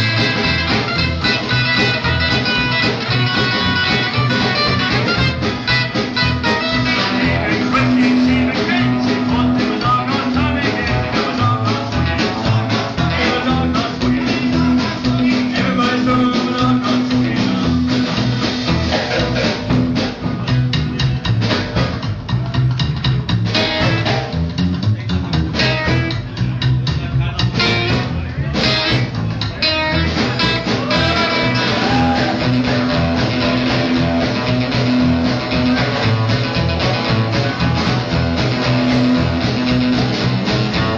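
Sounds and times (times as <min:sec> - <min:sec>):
rockabilly guitar over a steady beat: 0:00.0 - 0:40.9.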